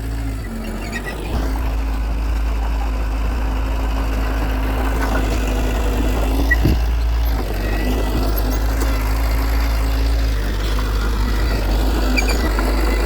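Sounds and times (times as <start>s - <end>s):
heavy diesel engine droning: 0.0s - 13.0s.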